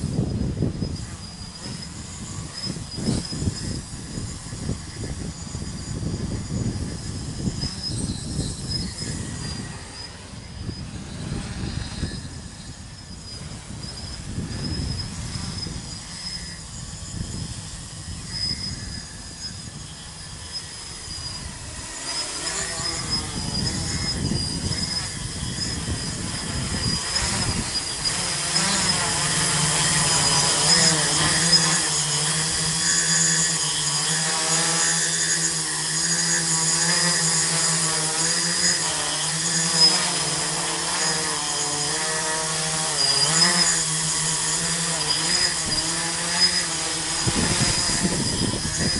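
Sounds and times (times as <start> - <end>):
drone motors buzzing: 0.0 - 48.9.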